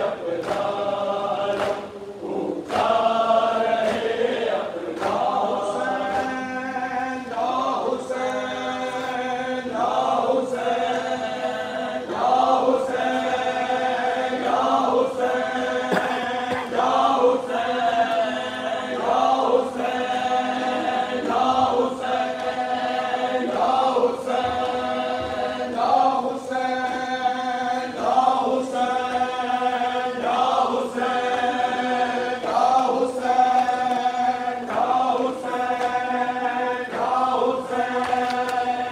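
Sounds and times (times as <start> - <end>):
crowd of men chanting: 0.0 - 38.9.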